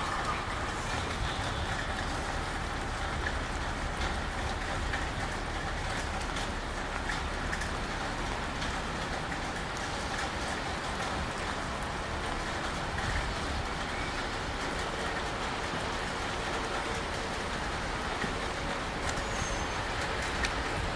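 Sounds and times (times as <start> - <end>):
train rolling on track: 0.0 - 20.9.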